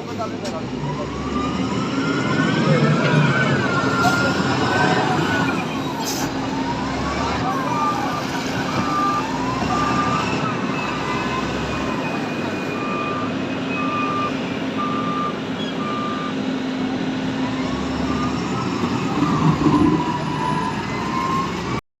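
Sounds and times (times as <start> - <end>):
reversing alarm beeping: 0.8 - 16.6, 17.3 - 21.8.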